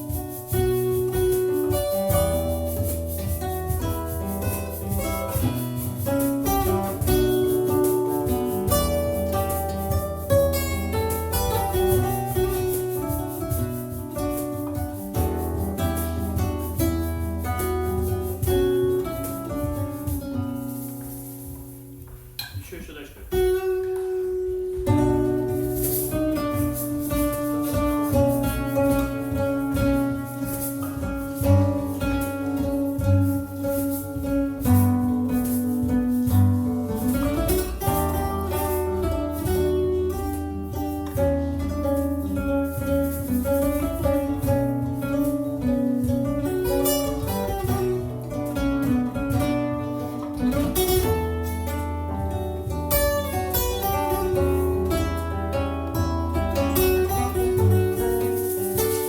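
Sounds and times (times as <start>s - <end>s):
instrumental background music: 0.0s - 22.6s, 23.2s - 59.0s.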